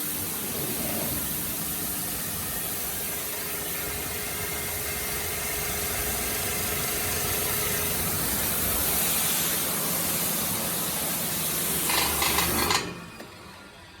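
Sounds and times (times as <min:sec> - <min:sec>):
pressure washer spraying: 0:00.0 - 0:12.8.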